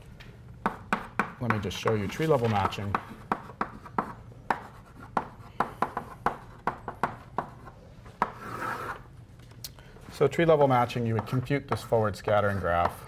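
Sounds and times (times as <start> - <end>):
chalk tapping and scratching: 0.6 - 9.0, 10.7 - 13.0.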